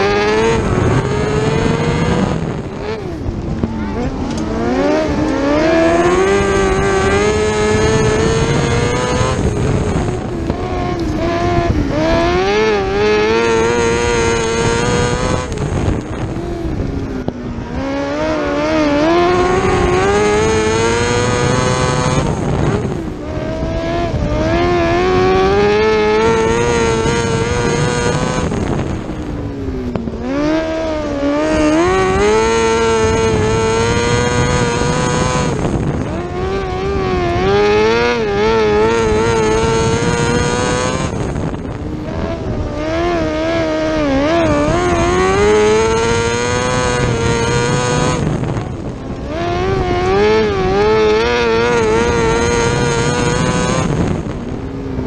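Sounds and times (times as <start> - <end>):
motorcycle engine at racing speed: 0.0 - 55.0.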